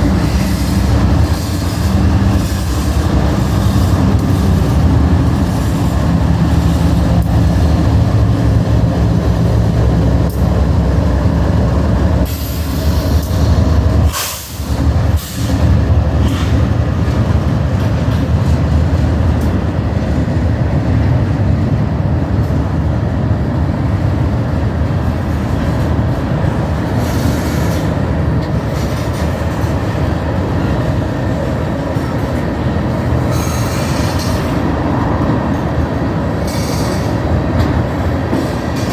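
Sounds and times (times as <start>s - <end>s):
diesel train low rumble: 0.0s - 38.9s.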